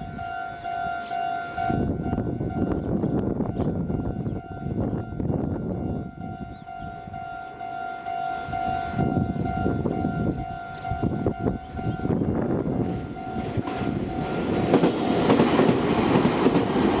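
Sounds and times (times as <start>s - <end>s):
level-crossing warning bell: 0.0s - 17.0s
train rumble and clatter: 0.0s - 17.0s.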